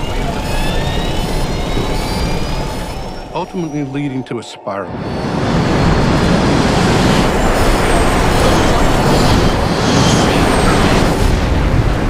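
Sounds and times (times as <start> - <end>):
jet airliner roaring: 0.0 - 3.4, 4.9 - 12.0.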